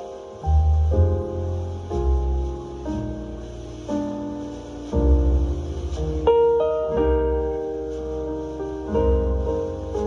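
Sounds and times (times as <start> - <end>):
deep bass: 0.4 - 10.0.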